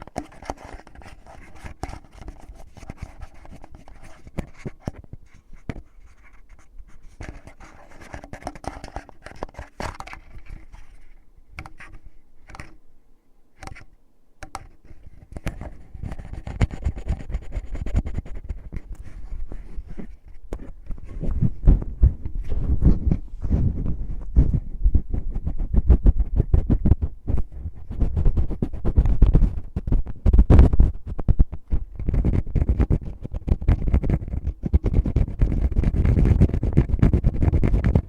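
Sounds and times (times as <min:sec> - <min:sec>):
fingers scratching a microphone: 0:00.0 - 0:12.8, 0:13.6 - 0:38.0.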